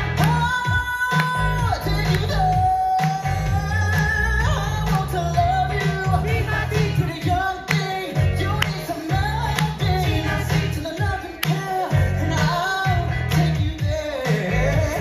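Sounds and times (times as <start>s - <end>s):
man singing: 0.0s - 15.0s
pop backing music with heavy bass: 0.0s - 15.0s.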